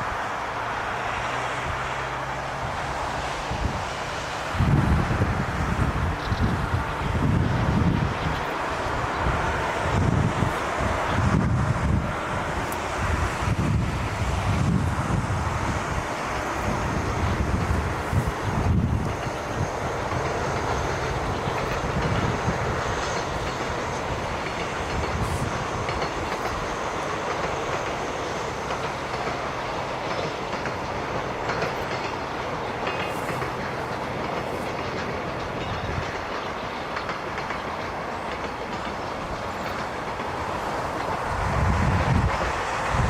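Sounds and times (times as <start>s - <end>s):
train wheels clattering on rails: 0.0s - 43.0s.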